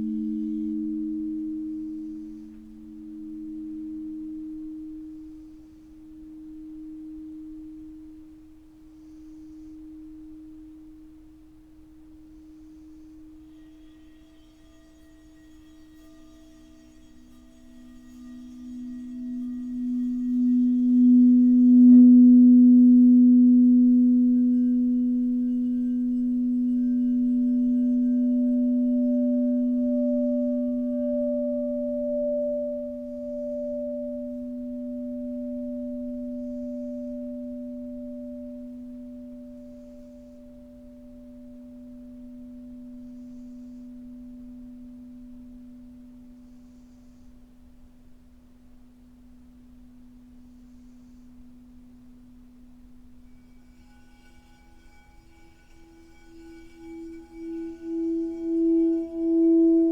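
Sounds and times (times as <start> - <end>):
singing bowl ringing: 0.0 - 47.2, 52.2 - 59.9.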